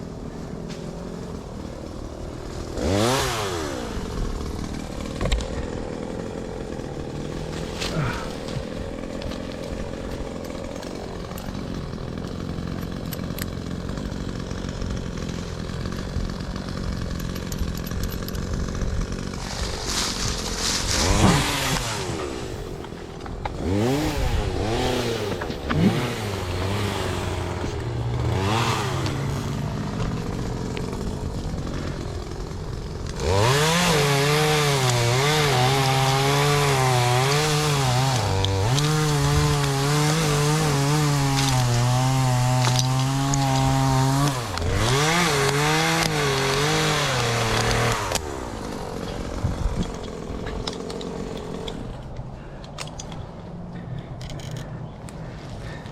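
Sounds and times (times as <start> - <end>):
chainsaw engine revving: 0.0 - 52.2.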